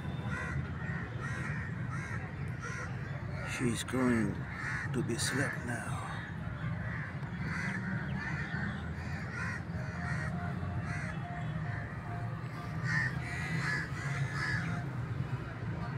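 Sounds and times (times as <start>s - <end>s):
birds calling harshly: 0.2s - 11.9s, 12.7s - 14.8s.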